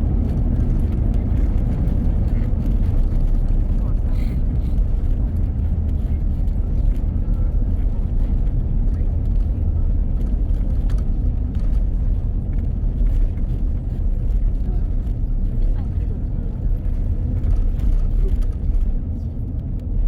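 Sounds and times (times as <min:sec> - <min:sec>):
vehicle interior rumble: 0:00.0 - 0:20.0.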